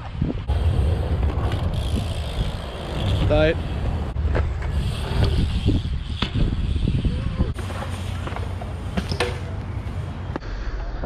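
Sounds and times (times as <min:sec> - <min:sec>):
wheels rolling on concrete: 0:00.0 - 0:10.3.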